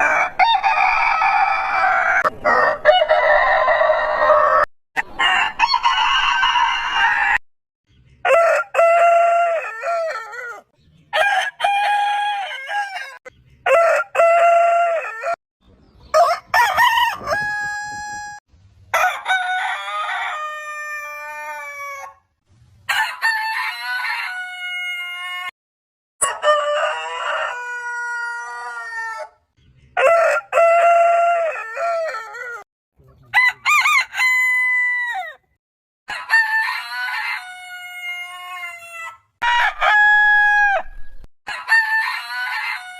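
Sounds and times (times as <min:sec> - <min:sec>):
roosters crowing: 0:00.0 - 0:07.4, 0:08.2 - 0:15.4, 0:16.1 - 0:22.3, 0:22.9 - 0:25.5, 0:26.2 - 0:29.4, 0:30.0 - 0:32.7, 0:33.3 - 0:42.9.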